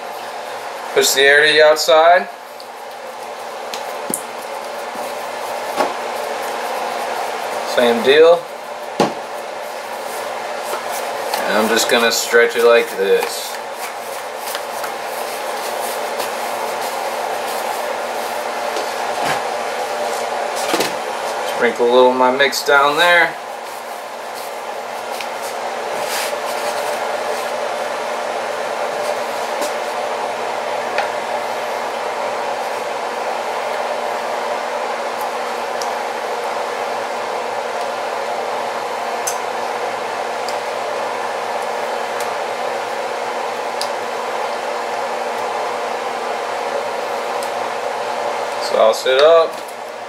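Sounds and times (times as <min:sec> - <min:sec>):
electric fan whirring: 0:00.0 - 0:50.0.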